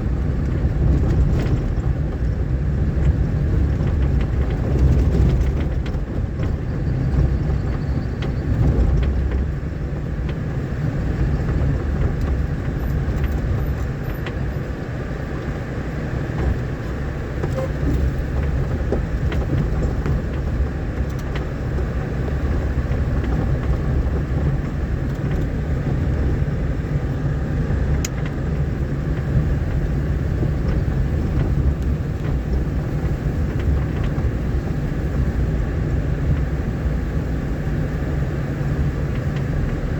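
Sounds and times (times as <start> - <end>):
vehicle rumbling on dirt road: 0.0 - 39.9.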